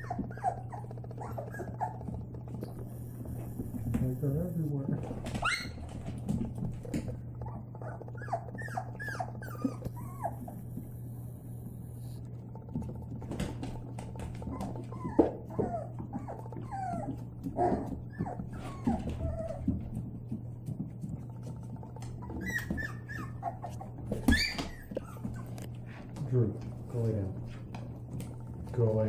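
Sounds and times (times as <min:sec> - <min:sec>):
puppies whimpering and yipping: 0:00.0 - 0:04.5, 0:05.2 - 0:20.3, 0:21.1 - 0:26.1
steady low hum: 0:00.0 - 0:29.0.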